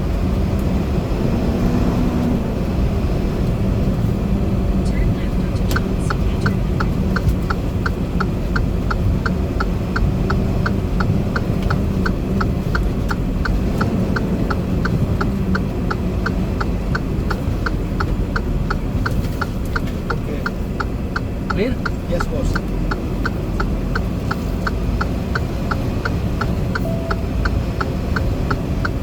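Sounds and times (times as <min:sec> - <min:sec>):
low engine rumble: 0:00.0 - 0:29.0
rapid electronic ticks: 0:02.6 - 0:29.0.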